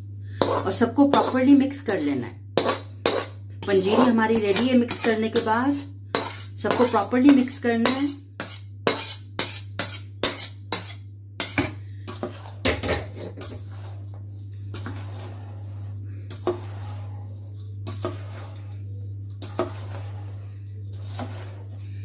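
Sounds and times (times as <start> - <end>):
steady low hum: 0.0 - 22.0
ladle stirring dry mixture: 0.4 - 22.0.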